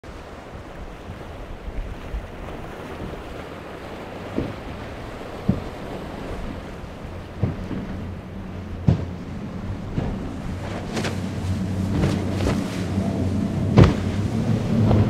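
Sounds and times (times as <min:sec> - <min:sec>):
outboard engines at speed: 0:00.0 - 0:15.0
hulls slamming waves: 0:00.1 - 0:15.0
water and spray rushing: 0:00.1 - 0:15.0
wind buffeting microphone: 0:00.1 - 0:15.0.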